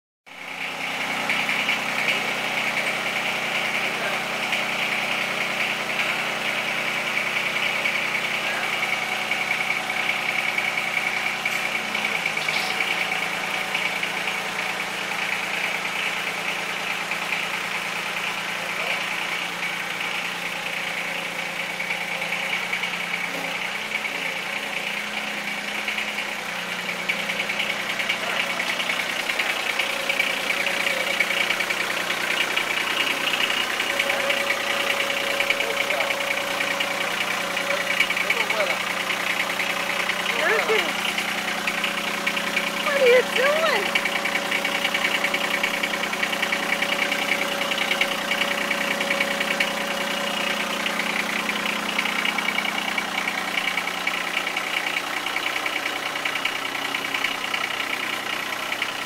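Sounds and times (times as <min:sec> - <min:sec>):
tractor engine idling: 0:00.3 - 0:59.0.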